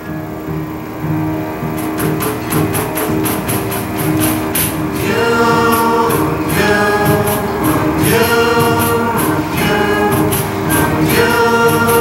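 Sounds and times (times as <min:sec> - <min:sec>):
strings holding sustained notes: 0:00.0 - 0:12.0
light percussion beat: 0:00.1 - 0:12.0.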